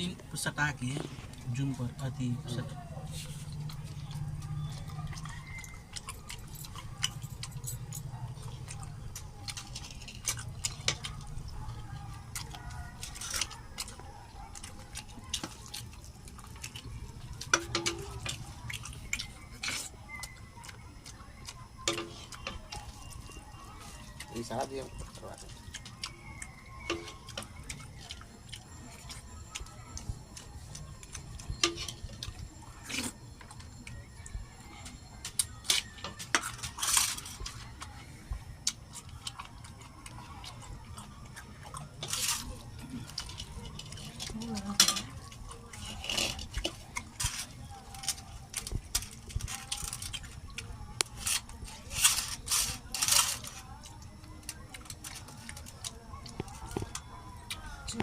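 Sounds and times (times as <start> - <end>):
chewing clicks and smacks: 0.4 - 58.0.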